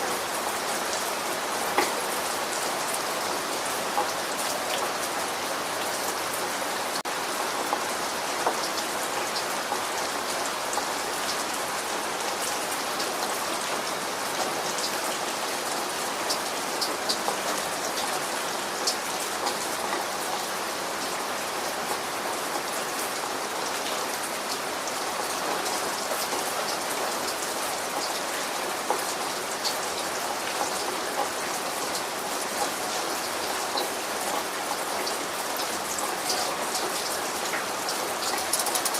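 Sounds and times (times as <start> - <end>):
steady rain hiss: 0.0 - 38.9
raindrops pattering: 0.1 - 38.9.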